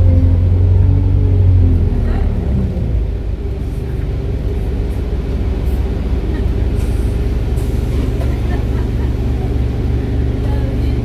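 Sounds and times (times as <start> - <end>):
bus engine droning: 0.0 - 11.0.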